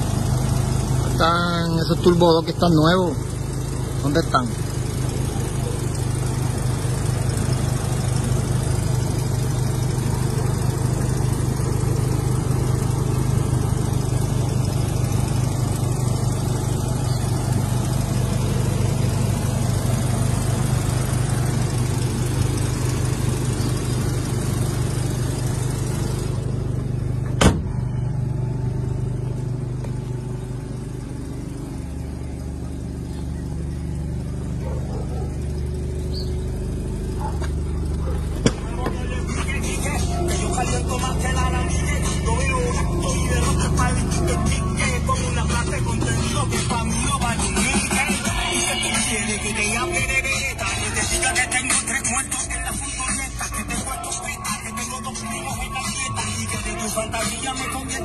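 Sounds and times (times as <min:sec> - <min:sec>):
engine hiss: 0:00.0 - 0:58.0
rotary engine idling: 0:00.0 - 0:58.0.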